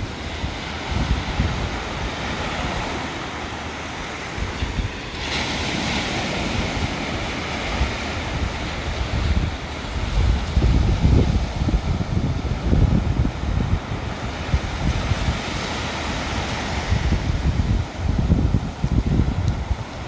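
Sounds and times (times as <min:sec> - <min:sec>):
ocean surf washing: 0:00.0 - 0:20.0
wind buffeting microphone: 0:00.0 - 0:20.0.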